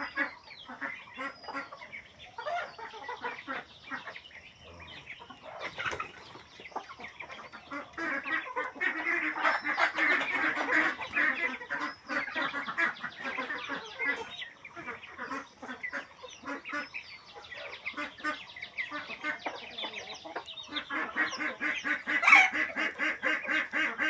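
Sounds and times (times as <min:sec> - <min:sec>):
flock of fowl calling: 0:00.0 - 0:24.0.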